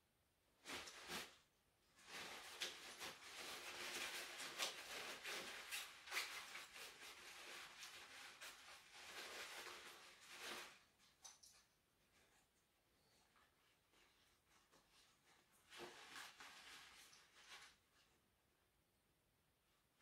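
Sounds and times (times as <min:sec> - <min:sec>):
paper towel rustling and crinkling: 0:00.6 - 0:18.3.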